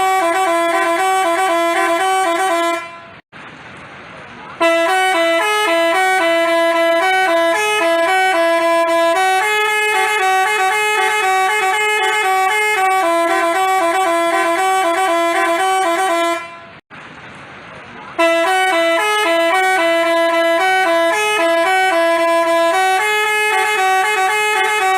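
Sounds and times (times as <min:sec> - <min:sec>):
multi-tone bus horn tune: 0:00.0 - 0:03.2, 0:04.6 - 0:16.8, 0:18.2 - 0:24.9.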